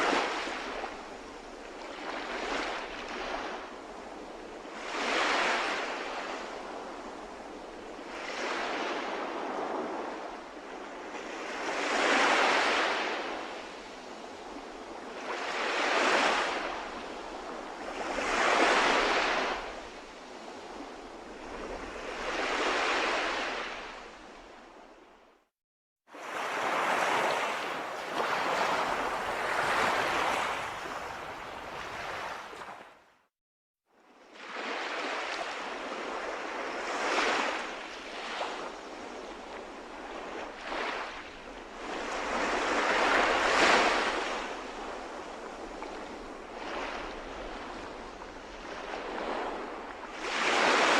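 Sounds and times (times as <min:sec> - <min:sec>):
sea waves breaking: 0:00.0 - 0:24.8, 0:26.1 - 0:33.2, 0:34.4 - 0:50.9.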